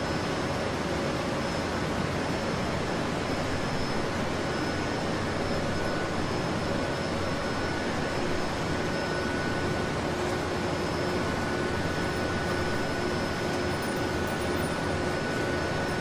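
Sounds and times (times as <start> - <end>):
ventilation and machinery hum: 0.0 - 16.0
faint steady tones: 0.2 - 16.0.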